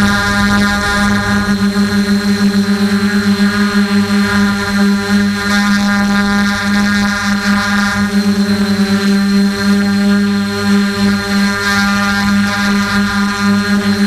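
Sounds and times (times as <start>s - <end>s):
drone propellers droning: 0.0s - 14.0s.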